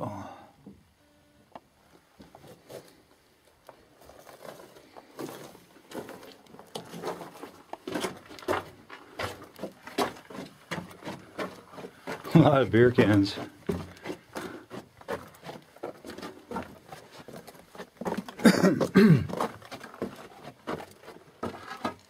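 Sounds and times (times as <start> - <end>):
footsteps crunching on rocks: 3.7 - 22.0.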